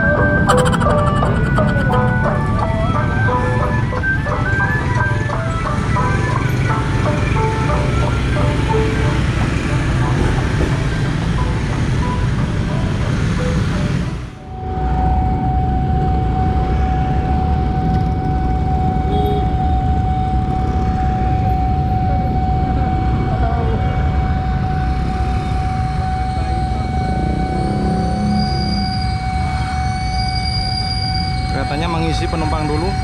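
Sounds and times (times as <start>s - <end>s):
crossing signal warning tone: 0.0s - 33.0s
street traffic: 0.0s - 33.0s.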